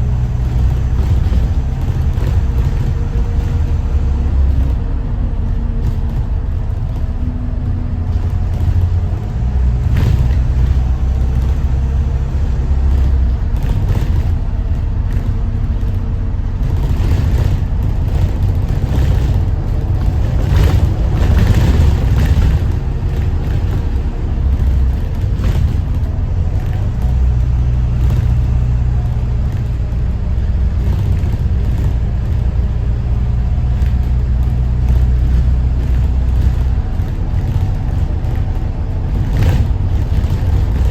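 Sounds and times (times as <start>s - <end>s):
bus diesel engine droning: 0.0s - 40.9s
road noise: 0.0s - 40.9s.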